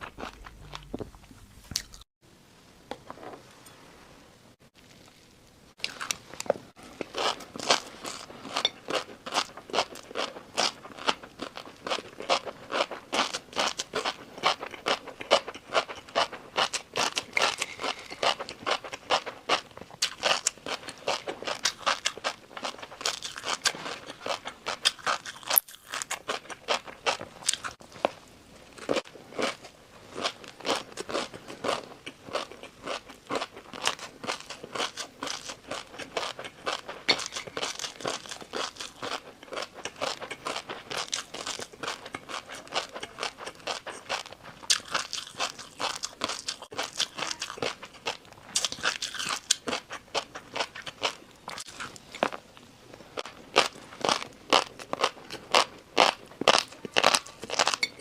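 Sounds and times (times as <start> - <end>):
crunchy chewing: 5.8 - 28.2, 28.8 - 57.9.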